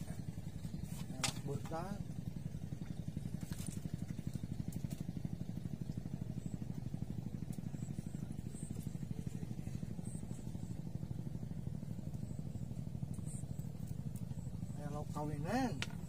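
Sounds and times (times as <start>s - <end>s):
small engine putt-putting: 0.0s - 16.0s.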